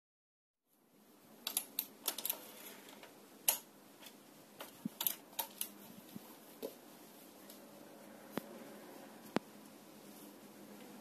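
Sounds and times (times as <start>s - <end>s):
faint steady background noise: 0.6s - 11.0s.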